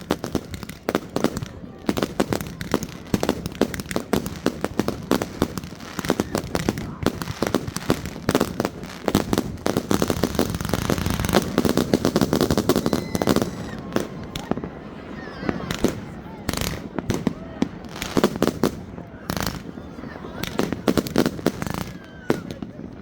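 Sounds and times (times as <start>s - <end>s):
fireworks bangs and crackle: 0.0s - 23.0s.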